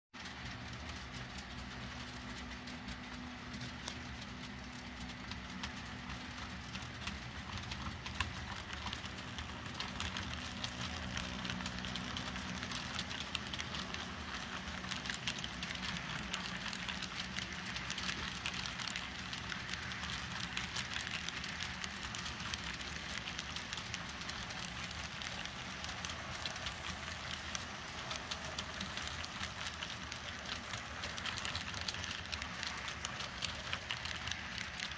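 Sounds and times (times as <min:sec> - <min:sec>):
locomotive low hum: 0:00.2 - 0:34.9
model train wheels clicking: 0:00.2 - 0:34.9.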